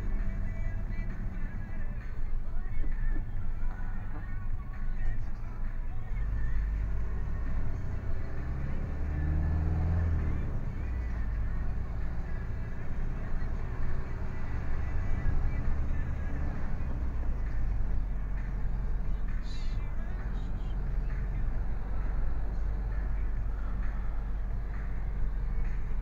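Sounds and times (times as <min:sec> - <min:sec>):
lorry diesel engine running: 0:00.0 - 0:26.0
road noise: 0:00.0 - 0:26.0.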